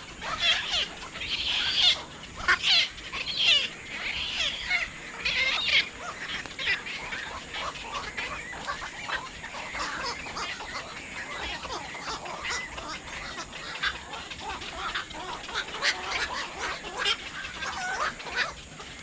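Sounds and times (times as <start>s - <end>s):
many birds chattering: 0.0s - 19.0s.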